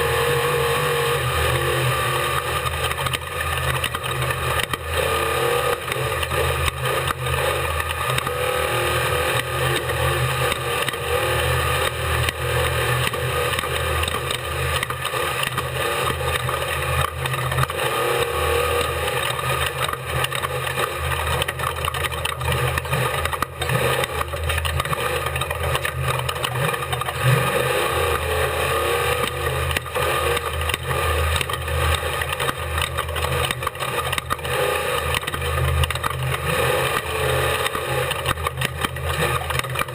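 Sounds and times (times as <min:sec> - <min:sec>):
race car engine running hard: 0:00.0 - 0:39.9
knocks and rattles over rough ground: 0:02.2 - 0:39.9.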